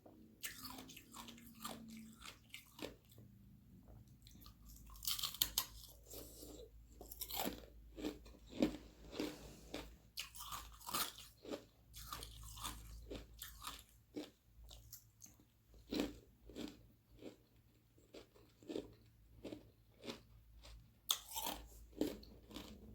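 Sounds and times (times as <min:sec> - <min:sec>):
crunching and chewing ice: 0:00.3 - 0:22.9.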